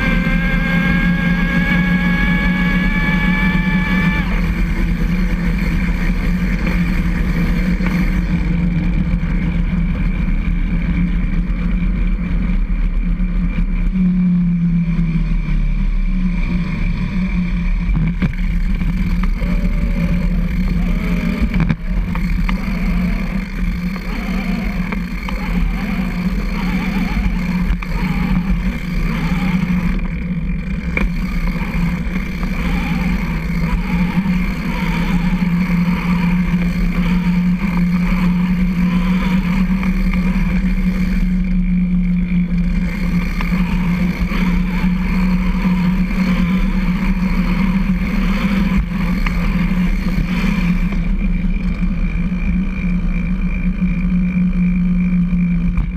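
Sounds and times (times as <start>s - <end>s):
tricycle rolling on concrete: 0.0s - 13.8s, 17.1s - 55.1s.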